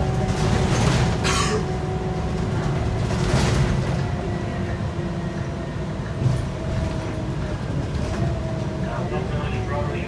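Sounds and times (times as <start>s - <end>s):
bus diesel engine rumbling: 0.0s - 10.0s
bus whine: 0.0s - 10.0s.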